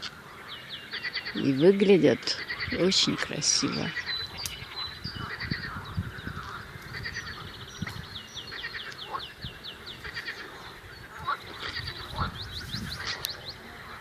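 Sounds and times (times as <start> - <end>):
birds singing: 0.0 - 14.0
animal calls: 0.8 - 14.0.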